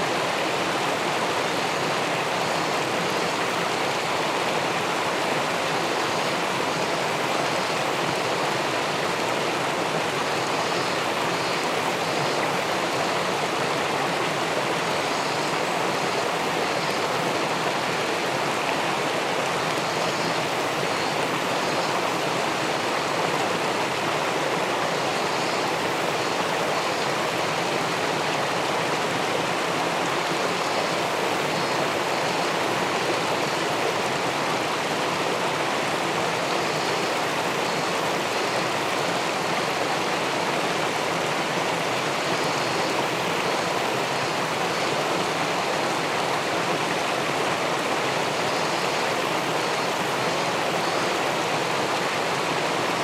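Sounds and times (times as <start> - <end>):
water rushing over weir: 0.0 - 53.0.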